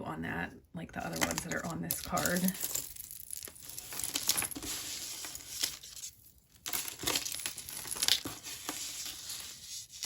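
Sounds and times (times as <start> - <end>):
plastic packaging crinkling: 1.1 - 10.0.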